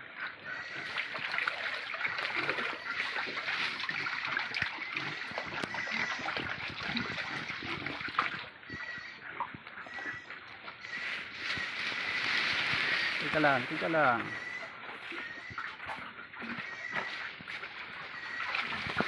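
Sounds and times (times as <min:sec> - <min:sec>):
pigs splashing and eating in mud: 0:00.0 - 0:19.0.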